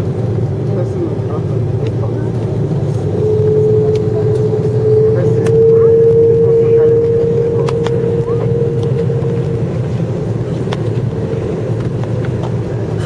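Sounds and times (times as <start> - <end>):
jet engines low rumble: 0.0 - 13.0
steady hum tone: 0.0 - 13.0.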